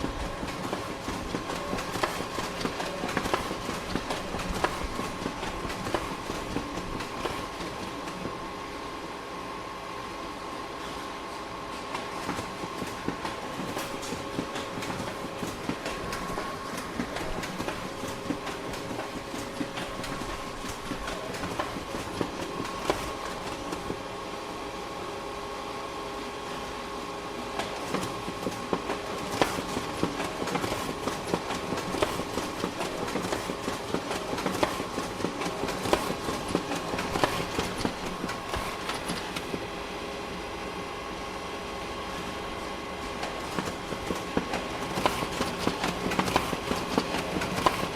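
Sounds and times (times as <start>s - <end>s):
photocopier running: 0.0s - 47.9s.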